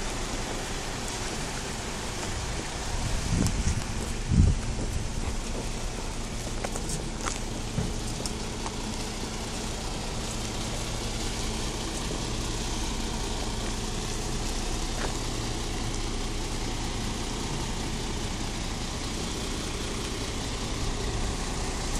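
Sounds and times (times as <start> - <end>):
truck diesel engine droning: 0.0 - 21.9.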